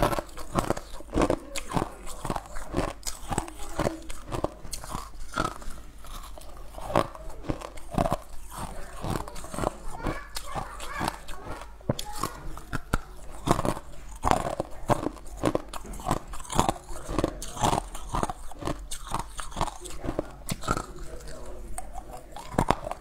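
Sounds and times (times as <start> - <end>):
ice cubes crunching: 0.0 - 23.0.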